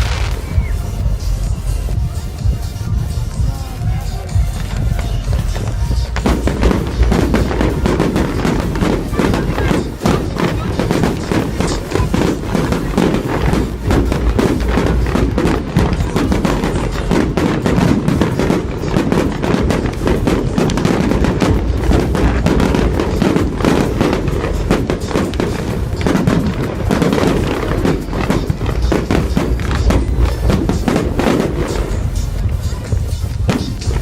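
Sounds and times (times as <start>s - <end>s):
fireworks bangs and crackles: 0.0s - 34.0s
music playing: 0.0s - 34.0s.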